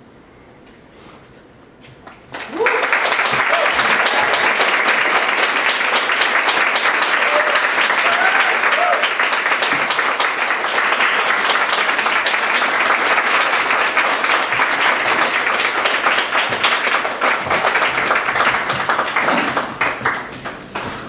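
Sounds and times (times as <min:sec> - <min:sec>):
audience applauding: 0:02.0 - 0:21.0.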